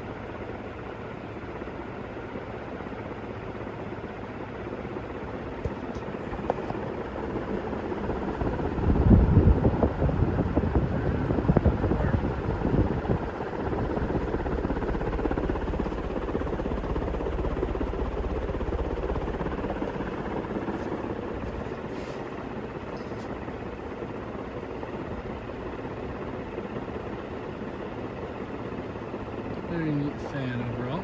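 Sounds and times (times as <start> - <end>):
ceiling fan rushing air: 0.0 - 31.0.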